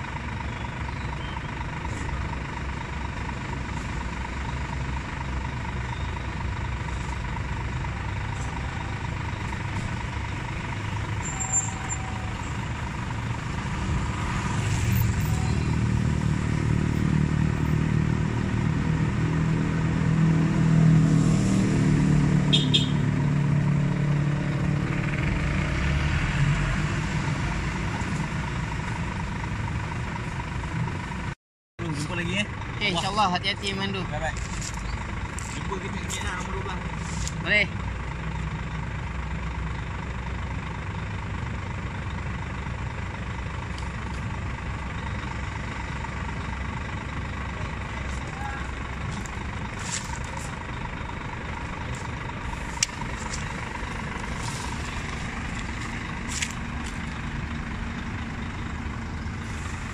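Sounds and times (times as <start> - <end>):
diesel truck engine idling: 0.0 - 20.7, 22.2 - 59.9
diesel lorry driving past: 0.0 - 59.9.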